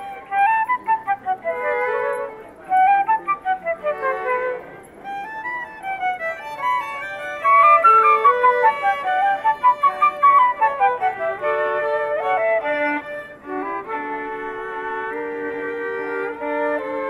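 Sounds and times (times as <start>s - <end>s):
flute playing: 0.0s - 17.0s
violin playing: 0.0s - 17.0s.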